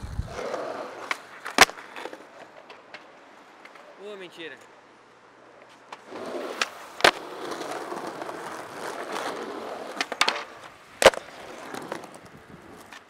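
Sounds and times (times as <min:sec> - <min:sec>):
skateboard clacks: 0:00.0 - 0:03.9, 0:05.6 - 0:13.0
skateboard landing crack: 0:00.0 - 0:03.9, 0:05.6 - 0:13.0
skateboard wheels rolling on concrete: 0:00.0 - 0:13.0.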